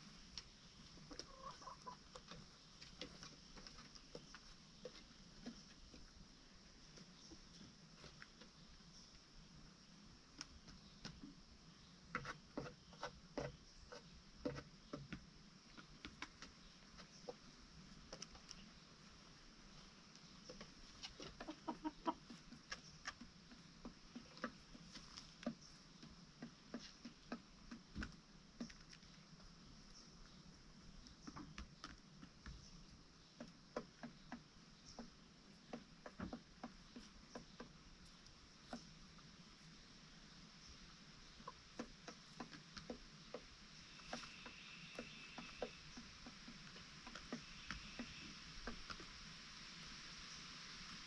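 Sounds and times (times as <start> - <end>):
chickens clucking: 0.0 - 49.3.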